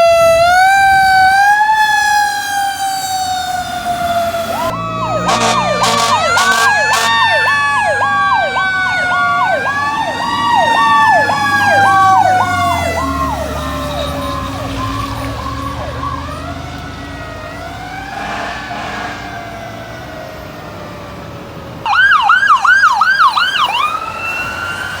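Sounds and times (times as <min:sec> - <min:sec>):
sirens wailing: 0:00.0 - 0:25.0
sirens yelping: 0:00.0 - 0:25.0.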